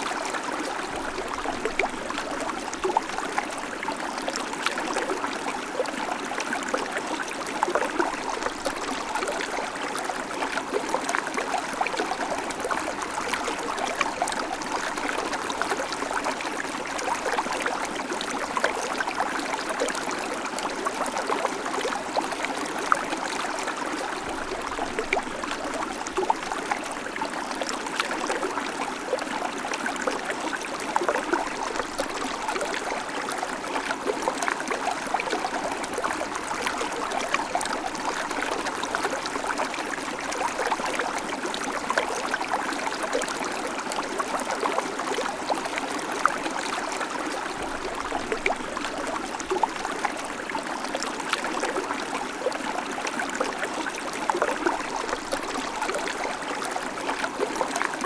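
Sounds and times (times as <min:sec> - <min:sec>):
creek water over stones: 0:00.0 - 0:58.0.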